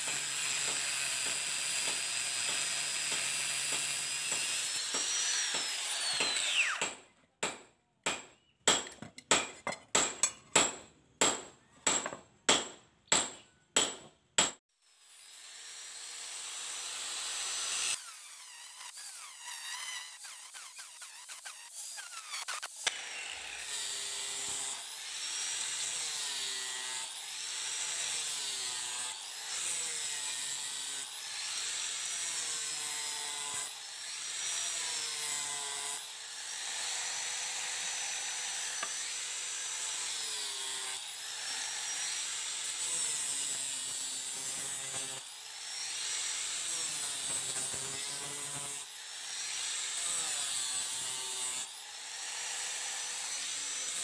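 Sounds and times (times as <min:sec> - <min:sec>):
electric grinder on steel: 0:00.0 - 0:07.0, 0:14.8 - 0:54.0.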